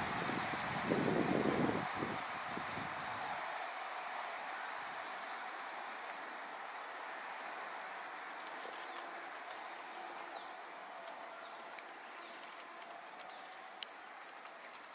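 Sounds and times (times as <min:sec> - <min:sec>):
faint outdoor background noise: 0:00.0 - 0:14.9.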